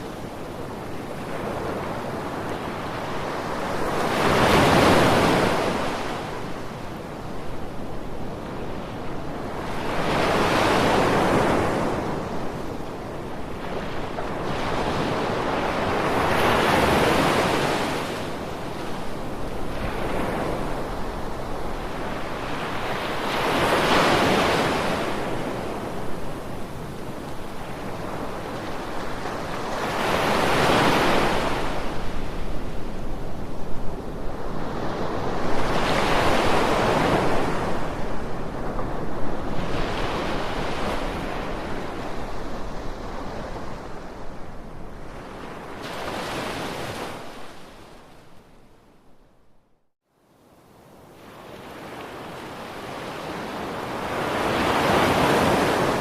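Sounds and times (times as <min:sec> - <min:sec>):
ocean waves breaking on beach: 0:00.0 - 0:48.4, 0:50.7 - 0:56.0.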